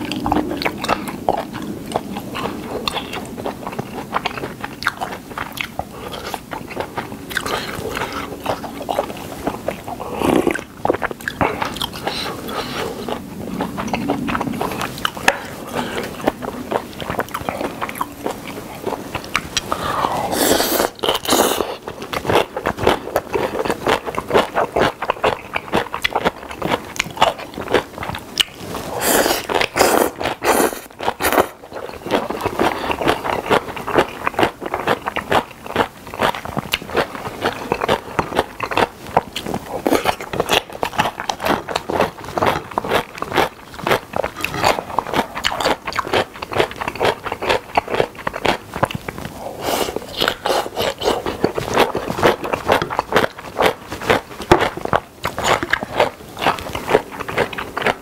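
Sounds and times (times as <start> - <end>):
wet chewing and mouth sounds: 0.0 - 58.0.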